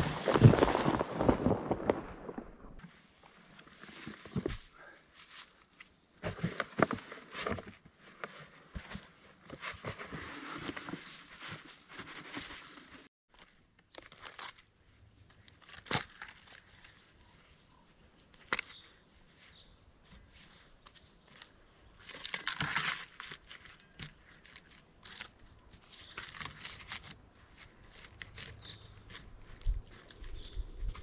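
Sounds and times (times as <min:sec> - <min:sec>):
hands crunching and rustling bark: 0:00.0 - 0:02.7, 0:03.8 - 0:31.0.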